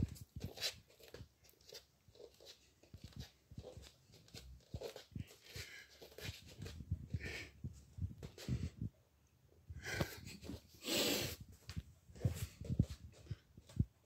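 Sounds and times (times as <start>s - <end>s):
light footsteps: 0.0s - 8.9s, 11.4s - 14.0s.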